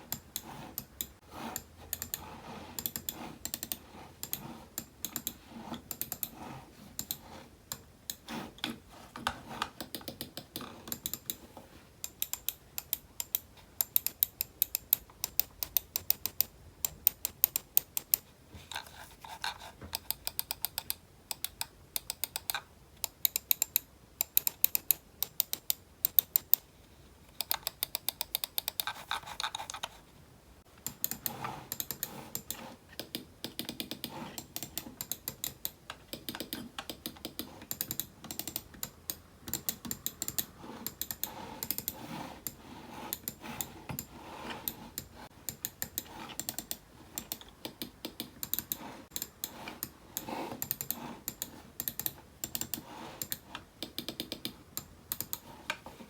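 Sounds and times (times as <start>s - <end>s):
typing on computer keyboard: 0.1s - 2.2s, 2.8s - 6.4s, 9.7s - 11.4s, 12.0s - 18.2s, 19.9s - 26.7s, 27.4s - 30.0s, 30.8s - 49.9s, 50.6s - 55.5s.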